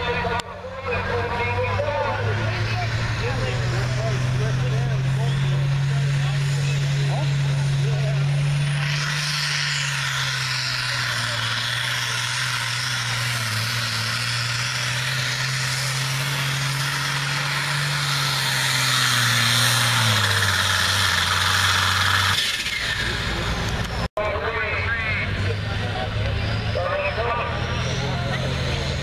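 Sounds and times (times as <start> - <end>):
diesel tractor engine under load: 0.0 - 29.0.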